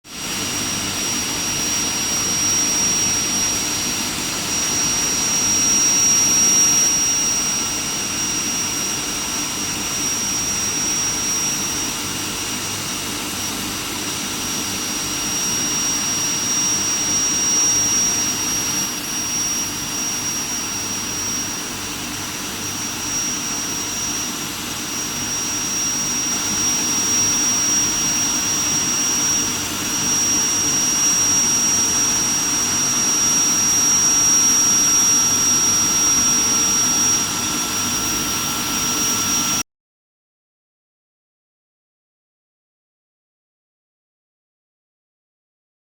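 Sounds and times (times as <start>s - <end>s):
high-pitched machine whine: 0.1s - 39.6s.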